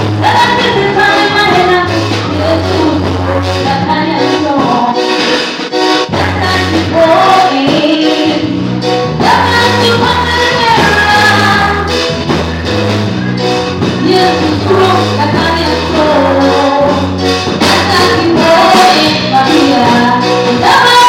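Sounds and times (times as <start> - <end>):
amplified band music: 0.0 - 21.0
bass line: 0.0 - 21.0
drums: 0.0 - 21.0
woman singing gospel: 0.1 - 5.2, 6.1 - 8.6, 9.2 - 11.9, 14.0 - 21.0.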